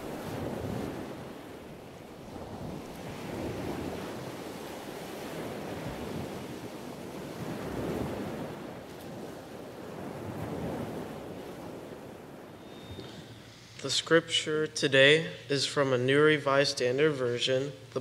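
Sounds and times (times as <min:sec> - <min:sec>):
ocean waves washing in: 0:00.0 - 0:15.8.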